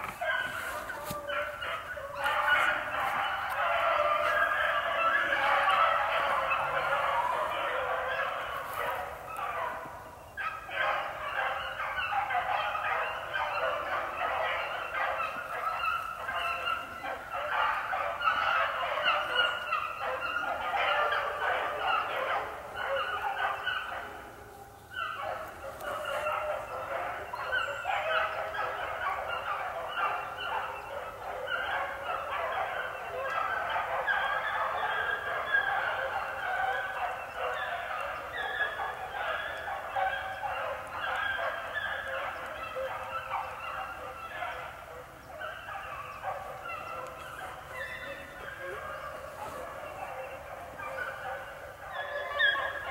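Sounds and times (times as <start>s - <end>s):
dogs baying: 0.0s - 52.9s.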